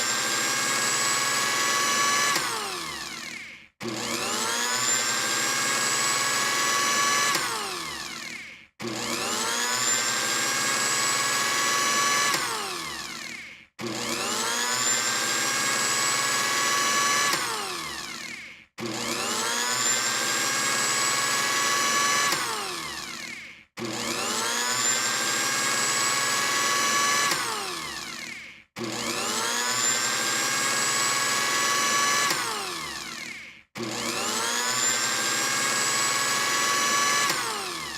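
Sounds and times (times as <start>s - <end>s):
blender motor whining: 0.0s - 37.9s.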